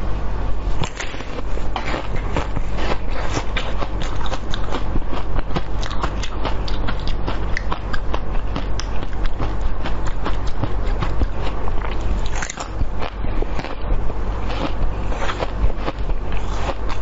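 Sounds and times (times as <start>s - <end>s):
crunching and chewing: 0.8s - 17.0s.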